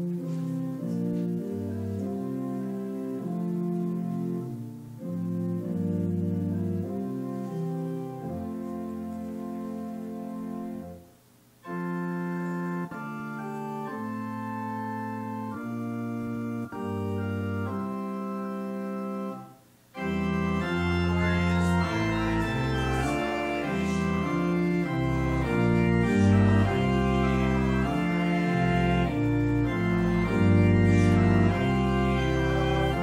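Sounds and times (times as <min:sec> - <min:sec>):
organ playing slow chords: 0:00.0 - 0:33.0.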